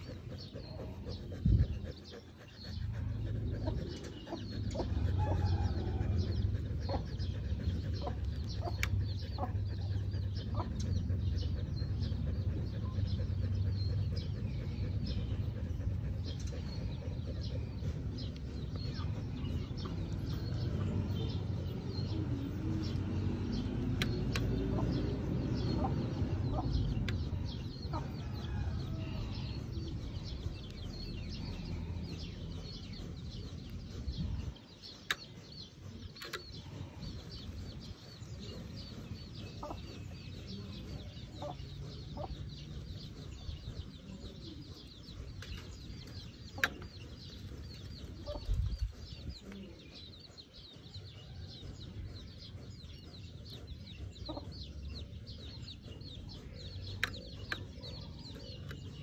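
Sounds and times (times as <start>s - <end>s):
low steady rumble: 0.0s - 59.0s.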